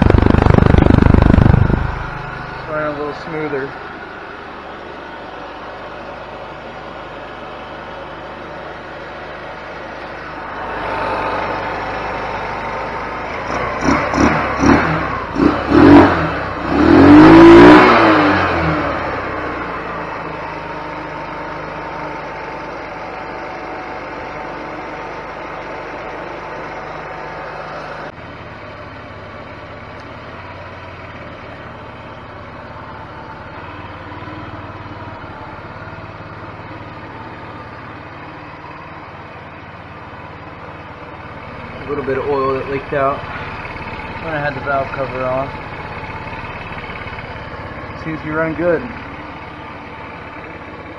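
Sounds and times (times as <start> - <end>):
scooter engine revving and idling: 0.0 - 50.9.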